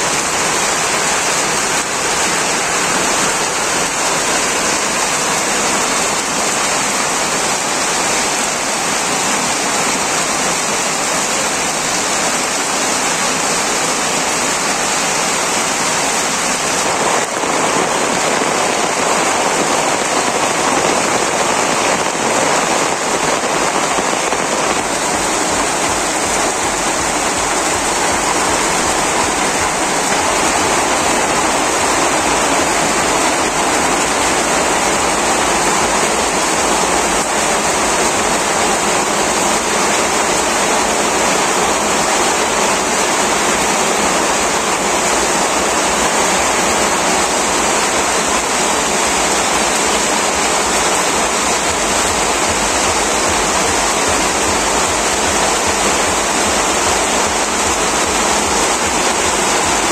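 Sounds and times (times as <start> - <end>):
heavy rain on tin roofs: 0.0 - 59.9.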